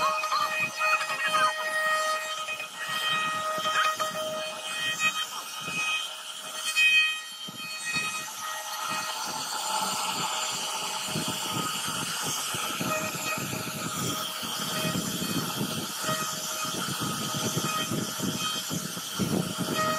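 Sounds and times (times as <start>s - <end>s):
bit cutting through wood: 0.0s - 19.9s
router spindle high whine: 0.0s - 19.9s.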